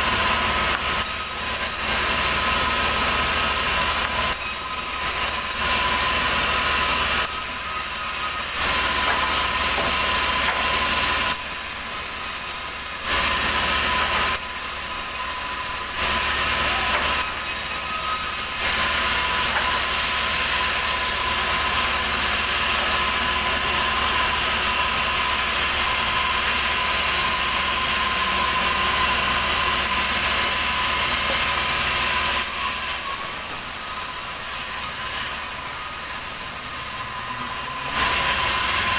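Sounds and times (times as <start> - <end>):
band saw cutting log: 0.0 - 38.9
machine noise: 0.0 - 38.9.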